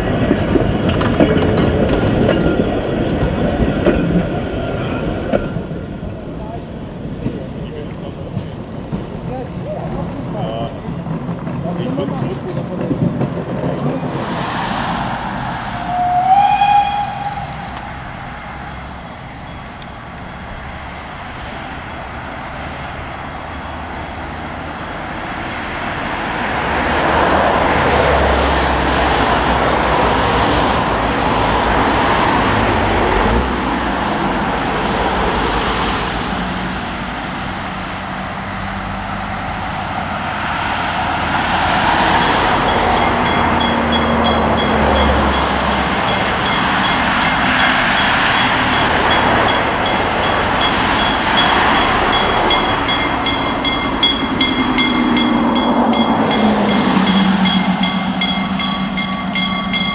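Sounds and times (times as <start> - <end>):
steam train rumbling: 0.0 - 59.9.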